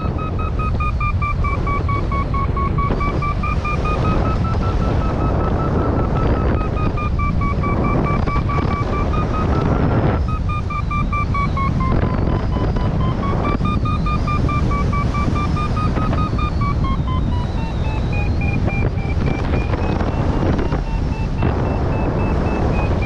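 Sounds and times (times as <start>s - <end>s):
variometer beeping: 0.0s - 23.0s
wind rush on microphone: 0.0s - 23.0s.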